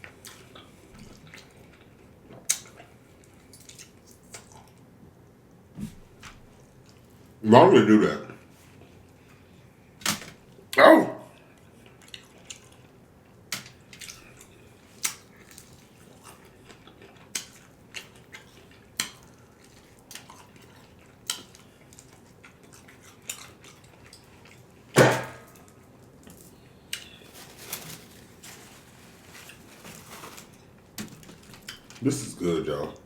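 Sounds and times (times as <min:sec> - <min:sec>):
crunchy chewing of fried chicken: 0:00.0 - 0:05.0, 0:06.6 - 0:07.4, 0:11.4 - 0:25.0, 0:25.6 - 0:32.9.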